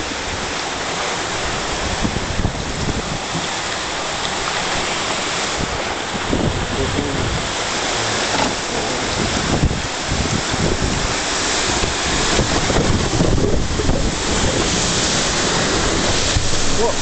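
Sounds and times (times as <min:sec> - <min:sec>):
spray splashing over raft: 0:00.0 - 0:17.0
whitewater rushing: 0:00.0 - 0:17.0.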